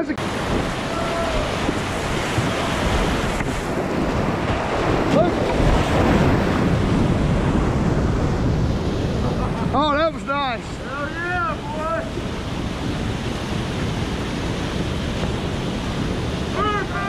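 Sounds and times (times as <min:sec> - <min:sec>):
whitewater rushing: 0:00.0 - 0:17.0
water splashing over kayak: 0:00.2 - 0:09.8, 0:10.8 - 0:17.0.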